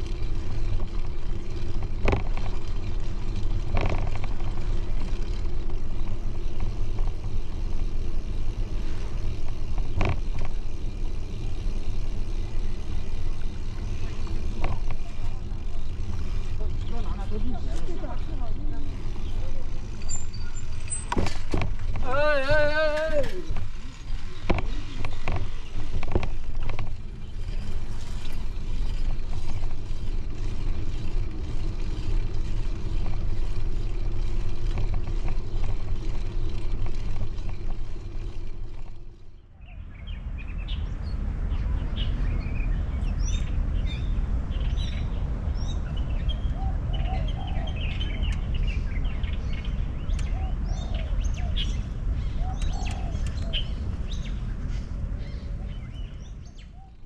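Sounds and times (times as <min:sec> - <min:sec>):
bicycle riding on pavement: 0:00.0 - 0:57.0
birds chirping: 0:00.0 - 0:57.0
wind rumble on microphone: 0:00.0 - 0:57.0.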